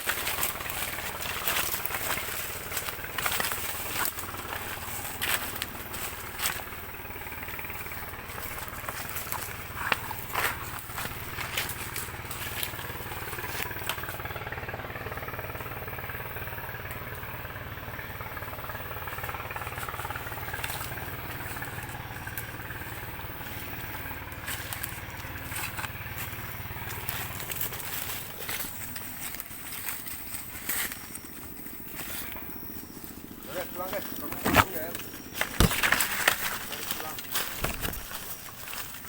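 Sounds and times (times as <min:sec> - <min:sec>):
small engine running: 0:00.0 - 0:39.0.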